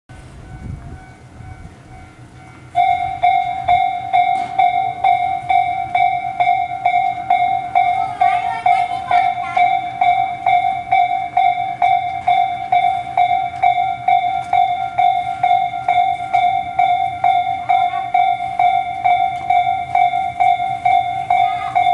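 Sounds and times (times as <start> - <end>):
level crossing warning bell: 0.1 - 21.9.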